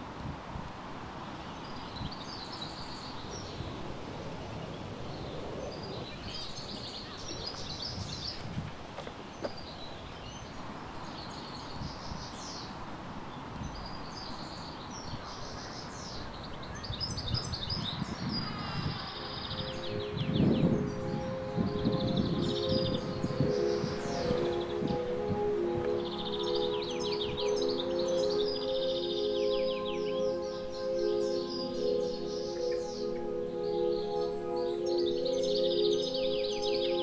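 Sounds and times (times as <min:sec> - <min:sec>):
small birds chirping and singing: 0:01.2 - 0:37.0.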